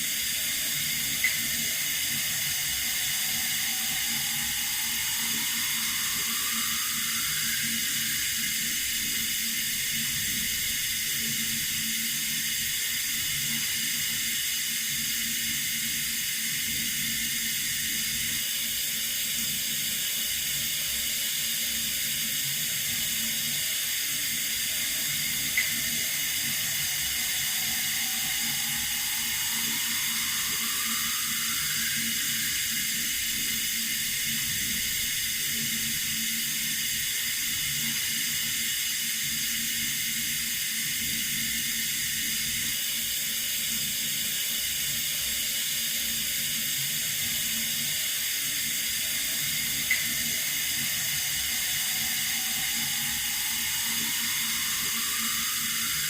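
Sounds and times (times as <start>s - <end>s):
water running from a tap: 0.0s - 44.8s, 45.5s - 56.0s.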